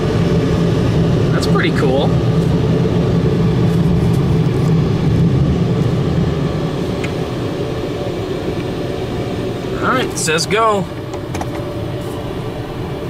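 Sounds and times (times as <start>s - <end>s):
dryer blowers rushing air: 0.0s - 13.0s.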